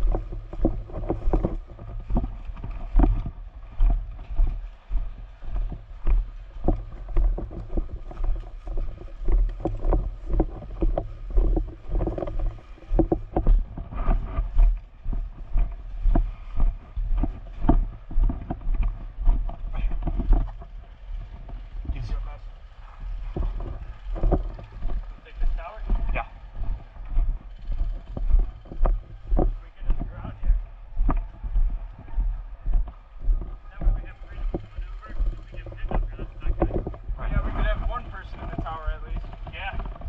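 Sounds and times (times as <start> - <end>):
footsteps in woods: 0.0 - 40.0
gear and clothing rustling: 0.0 - 40.0.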